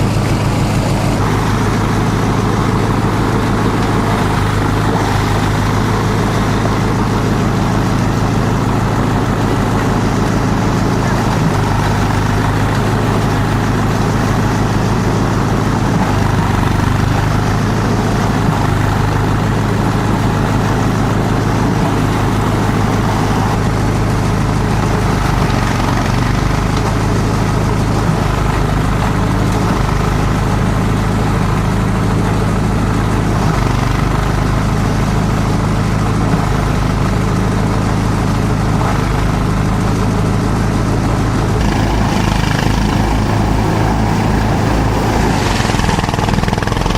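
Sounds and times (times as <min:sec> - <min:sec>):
shredder machine droning: 0:00.0 - 0:46.9.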